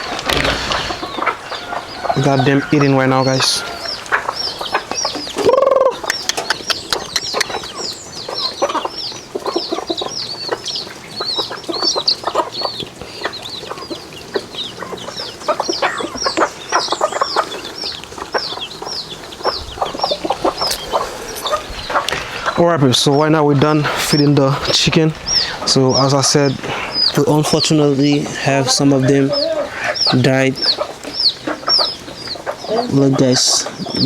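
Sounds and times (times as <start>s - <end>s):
chickens clucking: 0.0s - 34.0s
chicks peeping: 0.0s - 34.0s.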